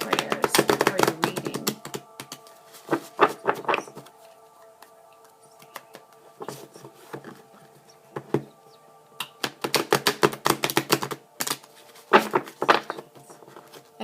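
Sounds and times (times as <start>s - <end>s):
cards clicking: 0.0s - 7.4s, 9.2s - 13.8s
faint steady background drone: 0.0s - 14.0s.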